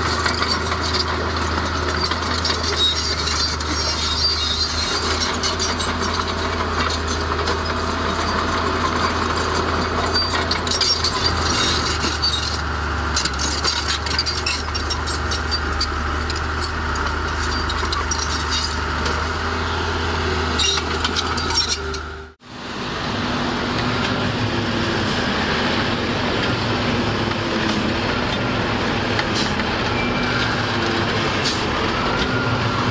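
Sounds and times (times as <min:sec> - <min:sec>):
heavy machinery diesel engine: 0:00.0 - 0:32.9.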